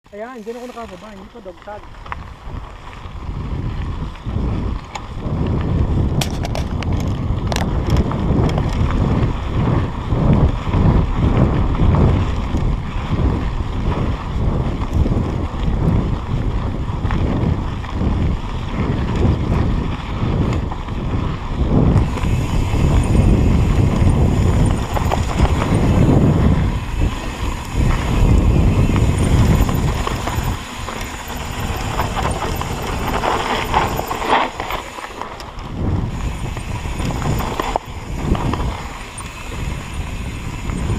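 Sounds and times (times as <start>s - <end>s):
wind buffeting microphone: 0.1s - 40.9s
bicycle knocks and rattles: 3.4s - 40.9s.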